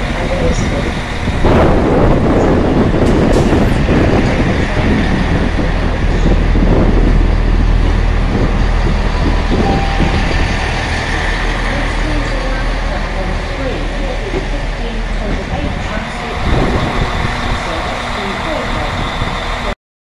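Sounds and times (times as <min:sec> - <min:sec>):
passenger train passing: 0:00.0 - 0:19.7.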